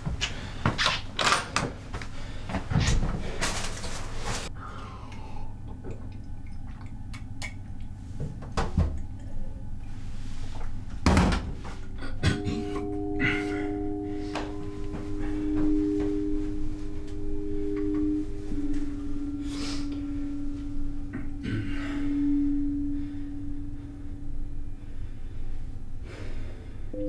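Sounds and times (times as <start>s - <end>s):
sustained low musical drone: 4.5s - 11.0s, 11.6s - 27.0s.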